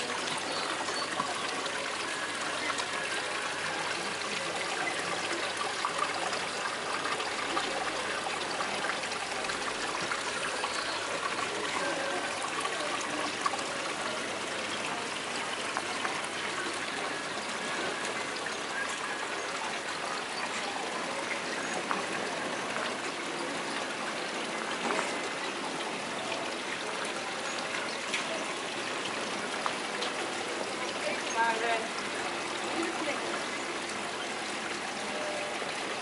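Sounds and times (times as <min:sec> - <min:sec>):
water trickling: 0:00.0 - 0:36.0.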